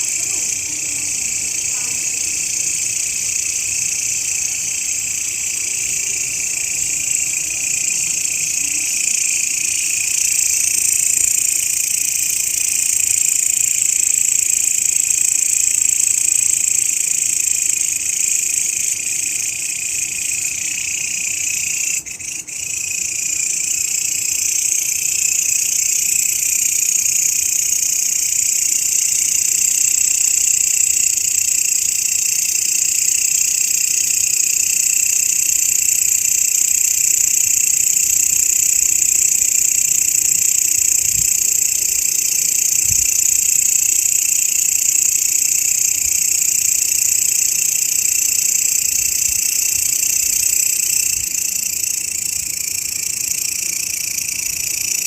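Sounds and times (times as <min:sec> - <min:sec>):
grasshopper buzzing: 0:00.0 - 0:55.0.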